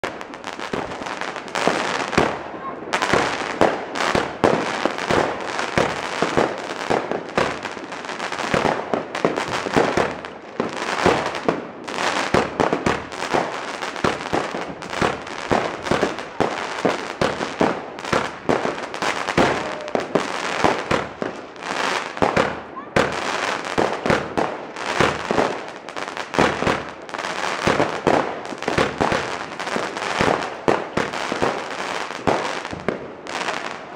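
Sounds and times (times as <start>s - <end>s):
firework rapid pops and cracks: 0.0s - 33.9s.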